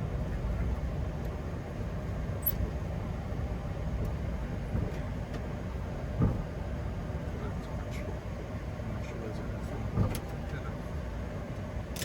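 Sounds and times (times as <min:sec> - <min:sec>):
airliner cockpit rumble: 0:00.0 - 0:12.0.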